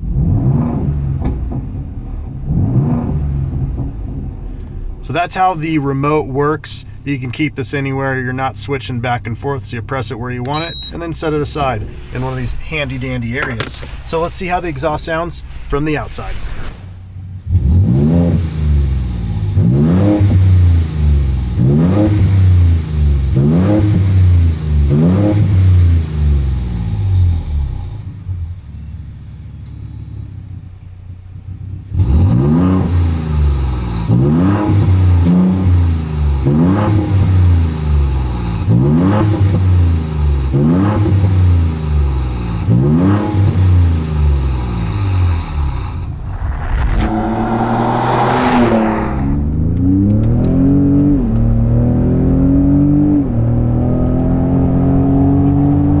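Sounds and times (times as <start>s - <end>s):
truck engine revving: 0.0s - 28.0s, 31.9s - 56.0s.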